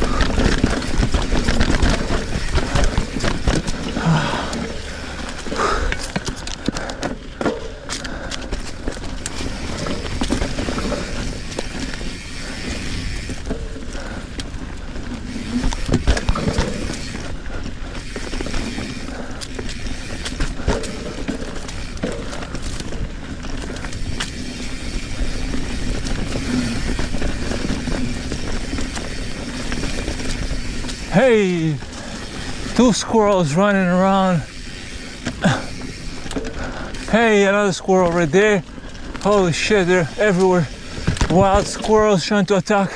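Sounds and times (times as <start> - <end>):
chain and frame rattling: 0.0 - 14.3, 15.0 - 42.3
bike tyres rolling on dirt: 0.0 - 42.9.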